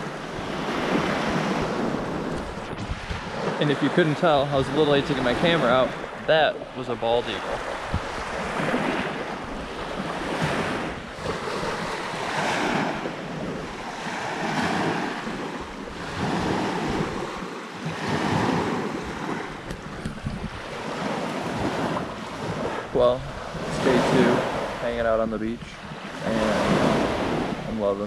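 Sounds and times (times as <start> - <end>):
small waves breaking on sand: 0.0 - 28.0.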